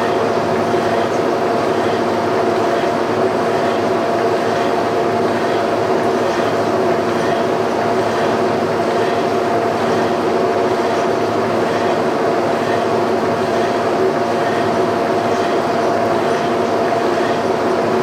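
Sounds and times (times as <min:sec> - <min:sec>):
steady machine whine: 0:00.0 - 0:18.0.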